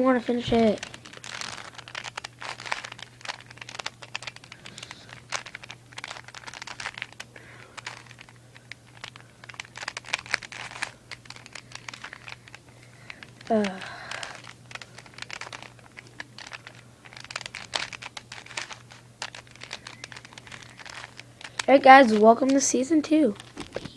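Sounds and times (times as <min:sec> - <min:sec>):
plastic puzzle cube clicking: 0:00.5 - 0:22.6.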